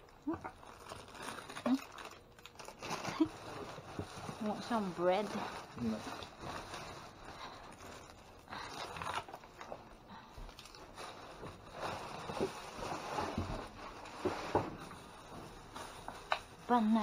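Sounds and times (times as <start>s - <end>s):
bags rustling and crinkling: 0.0s - 17.0s.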